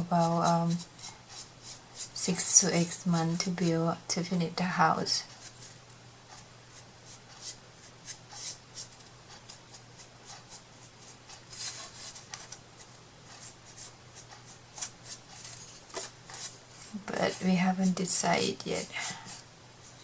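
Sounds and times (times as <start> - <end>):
scratching on a tabletop: 0.0 - 3.6, 5.2 - 20.0
steady low hum: 0.0 - 20.0.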